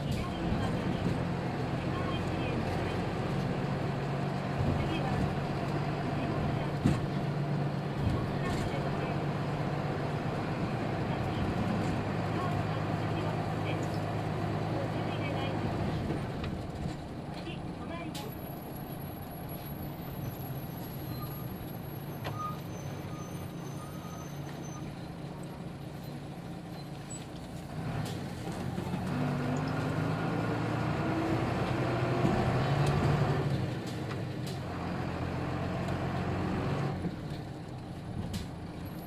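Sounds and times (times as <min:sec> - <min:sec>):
bus diesel engine: 0:00.0 - 0:39.0.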